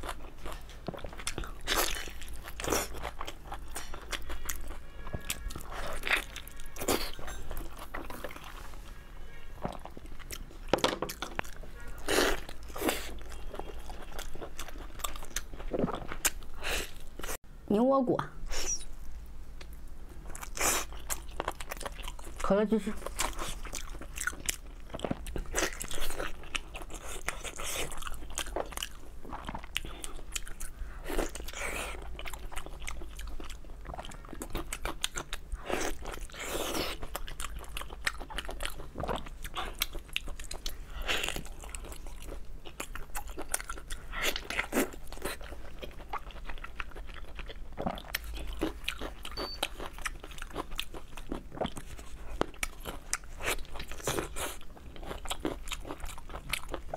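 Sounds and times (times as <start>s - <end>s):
person chewing meat: 0.0s - 8.6s, 9.6s - 17.4s, 19.6s - 22.4s, 23.0s - 56.9s.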